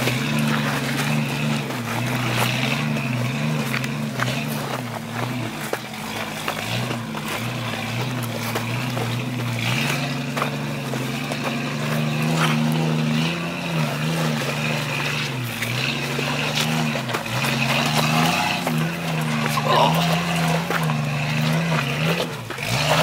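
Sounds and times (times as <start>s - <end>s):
engine pulling under throttle: 0.0s - 23.0s.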